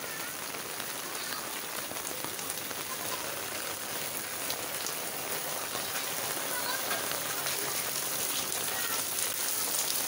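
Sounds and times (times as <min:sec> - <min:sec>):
rain on concrete: 0:00.0 - 0:10.0.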